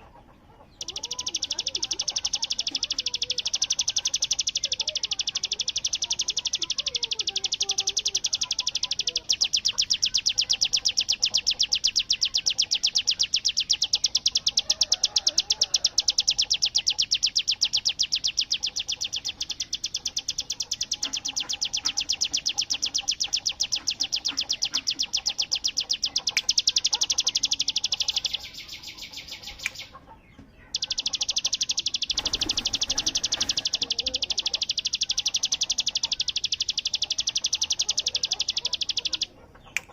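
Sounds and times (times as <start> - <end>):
bird singing rapid rattle: 0.0 - 39.9.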